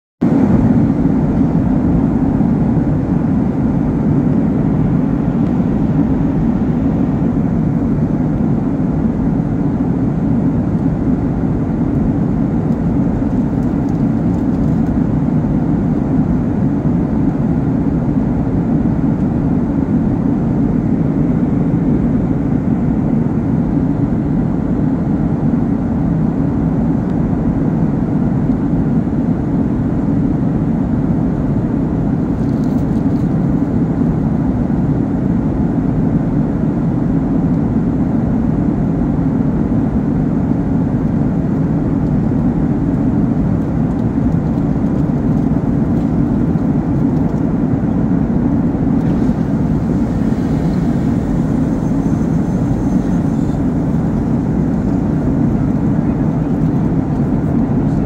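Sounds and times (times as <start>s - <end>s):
airliner cabin engine roar: 0.2s - 58.0s.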